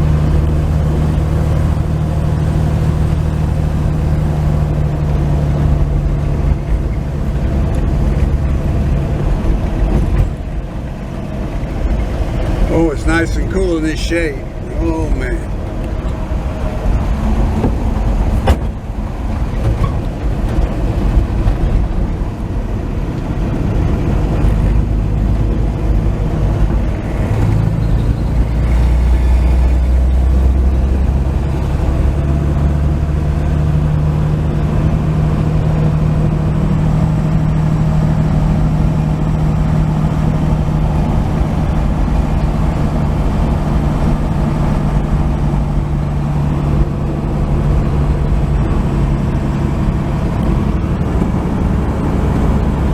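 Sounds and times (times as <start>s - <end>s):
truck engine driving: 0.0s - 52.9s.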